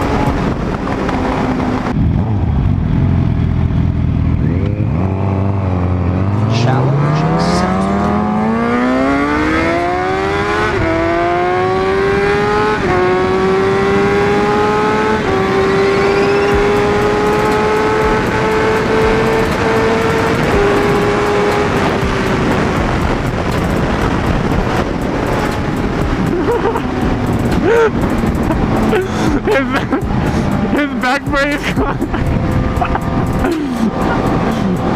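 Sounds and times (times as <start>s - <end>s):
wind rushing: 0.0s - 2.9s, 5.4s - 34.9s
motorcycle engine accelerating: 0.0s - 34.9s.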